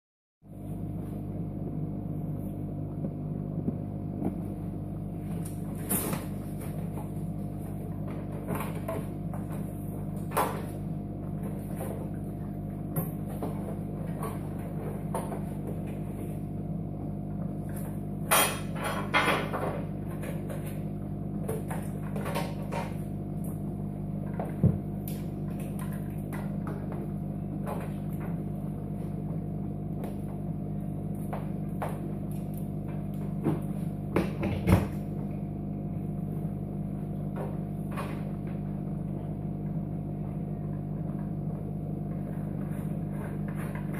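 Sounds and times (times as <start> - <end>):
electrical hum: 0.4 - 43.9.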